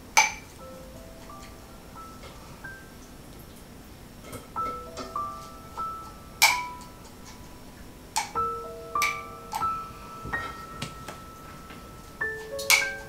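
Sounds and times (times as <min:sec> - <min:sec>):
soft mallet background music: 0:00.2 - 0:02.9, 0:04.6 - 0:13.0.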